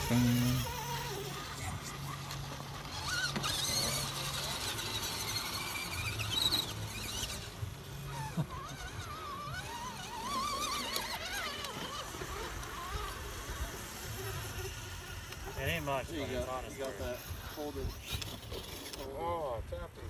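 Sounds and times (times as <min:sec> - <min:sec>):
electric motors whining: 0:00.0 - 0:19.5.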